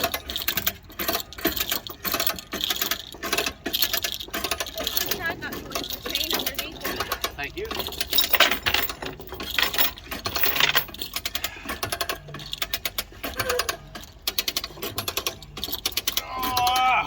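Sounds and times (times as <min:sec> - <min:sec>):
winch ratchet clicking: 0:00.0 - 0:17.0.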